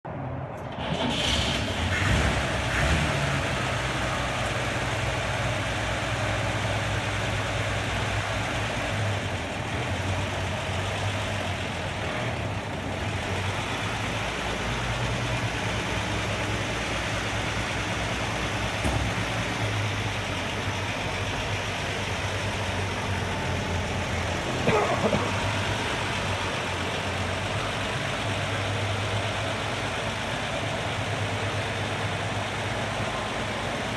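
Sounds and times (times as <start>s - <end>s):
pickup truck engine idling: 0.6s - 33.9s.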